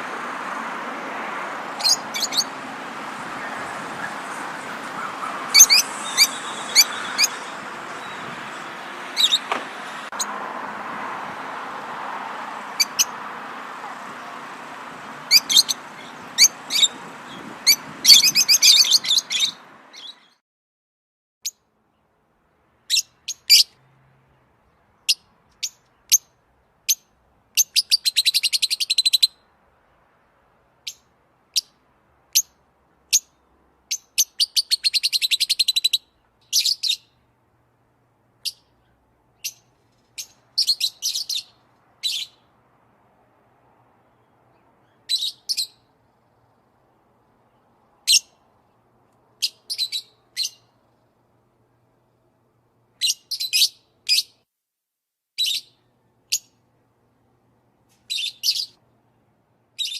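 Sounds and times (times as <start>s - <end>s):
songbirds chirping: 0.0s - 20.4s, 21.4s - 54.4s, 55.4s - 59.9s.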